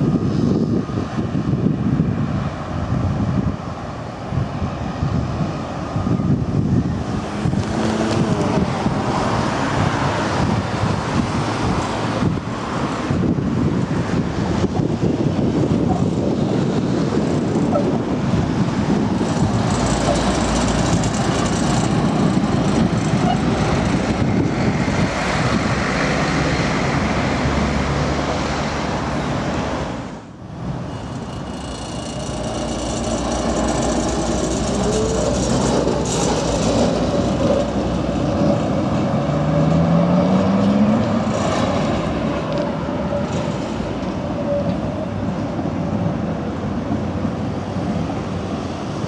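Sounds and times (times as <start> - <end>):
road traffic: 0.0 - 49.0
tram drive whine: 0.0 - 49.0
tram rumbling past on track: 0.0 - 49.0.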